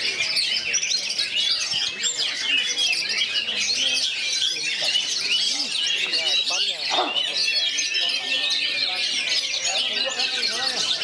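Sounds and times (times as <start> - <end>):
birds singing chirps and trills: 0.0 - 11.0.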